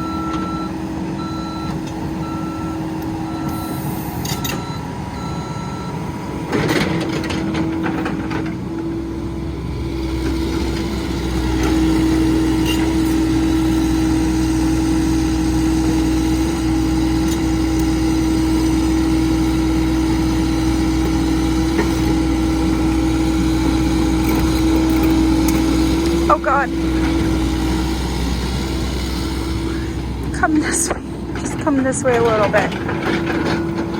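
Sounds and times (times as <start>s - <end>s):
heavy machine engine whining: 0.0s - 33.9s.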